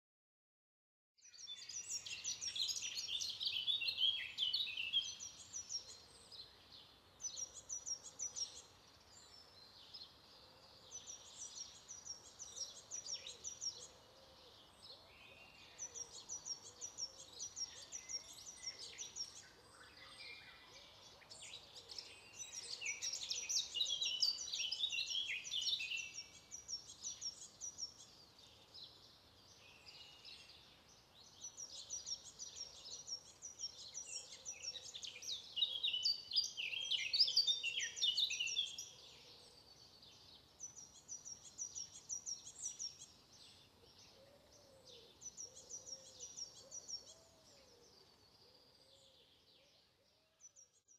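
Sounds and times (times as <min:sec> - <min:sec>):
songbirds singing: 0:01.2 - 0:50.9.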